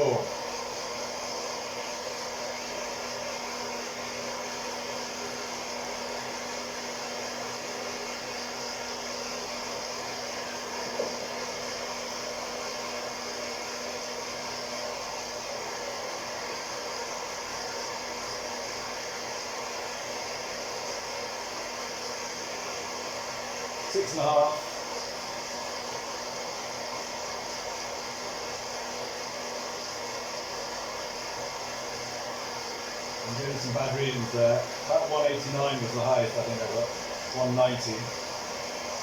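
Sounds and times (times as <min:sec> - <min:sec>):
coffee roaster blower rushing: 0:00.0 - 0:39.0
faint steady hum: 0:00.0 - 0:39.0.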